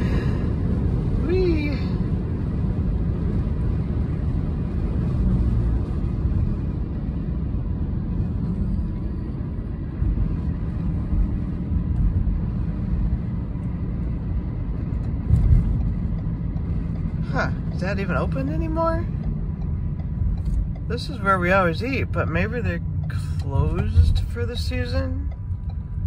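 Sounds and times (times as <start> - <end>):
car road noise: 0.0 - 26.0.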